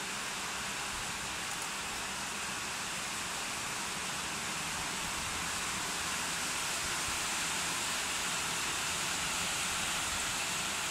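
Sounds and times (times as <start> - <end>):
box fan rushing air: 0.0 - 10.9.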